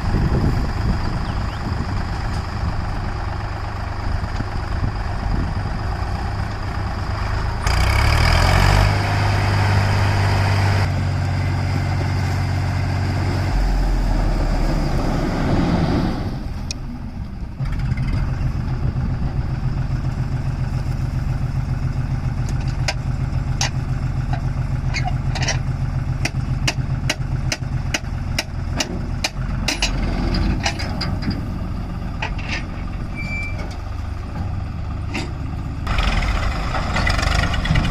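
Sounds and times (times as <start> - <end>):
heavy diesel engine revving: 0.0 - 37.9.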